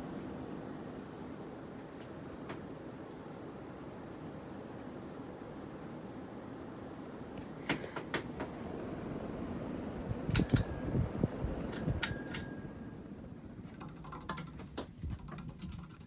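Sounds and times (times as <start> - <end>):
ceiling fan whirring: 0.0 - 16.0.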